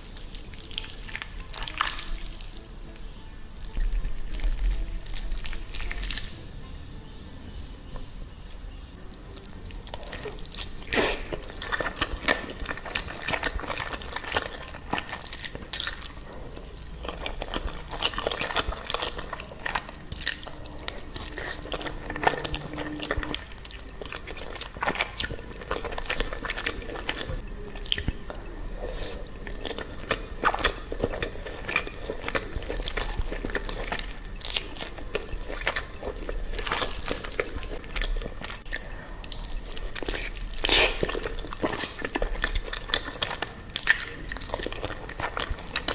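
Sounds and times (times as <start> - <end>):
wet chewing and mouth smacks: 0.0 - 3.0, 9.1 - 45.9.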